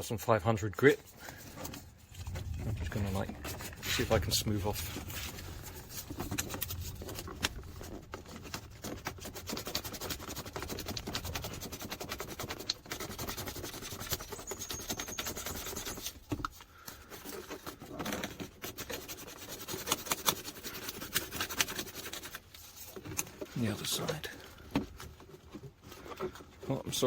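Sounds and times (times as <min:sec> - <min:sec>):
emery paper sanding plastic: 0:00.8 - 0:27.0.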